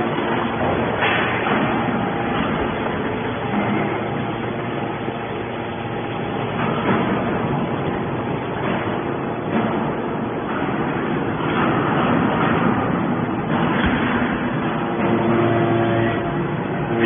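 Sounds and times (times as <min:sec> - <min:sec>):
hydraulic baler running: 0:00.0 - 0:17.0.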